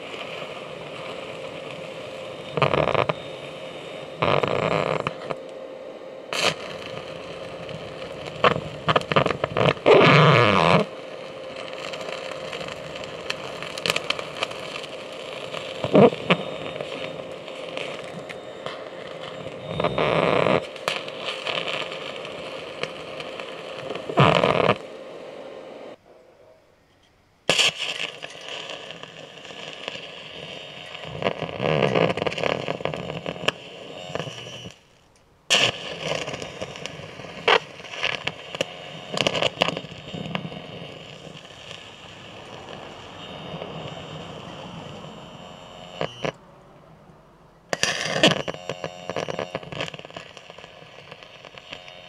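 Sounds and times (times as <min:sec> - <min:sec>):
carbon arc crackling and hissing: 0:00.0 - 0:26.0, 0:27.5 - 0:52.0.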